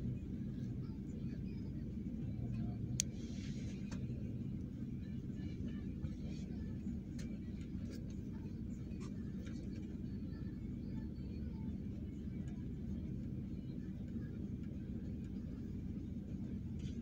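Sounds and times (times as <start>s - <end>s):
vehicle rumble inside cabin: 0.0s - 17.0s.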